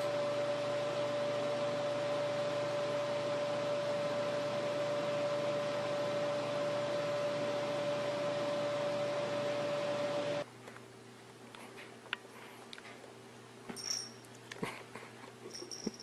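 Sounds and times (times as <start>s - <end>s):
fan running with hiss and hum: 0.0s - 16.0s.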